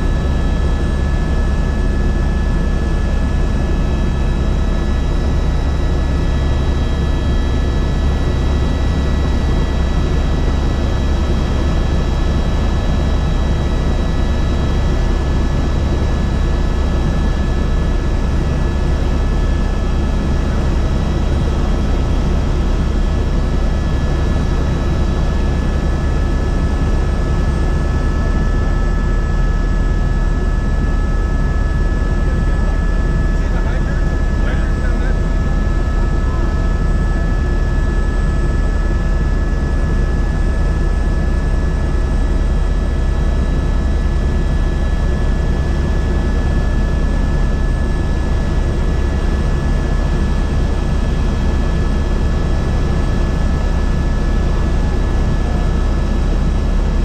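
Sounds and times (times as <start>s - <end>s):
helicopter in flight: 0.0s - 57.0s.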